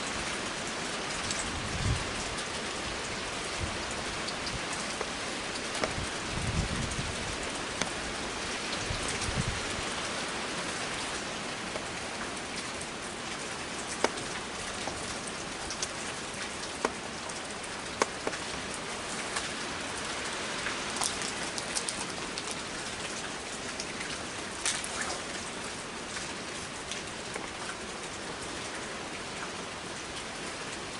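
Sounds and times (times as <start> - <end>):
heavy rain falling: 0.0 - 30.9
raindrops ticking on surfaces: 0.0 - 30.9.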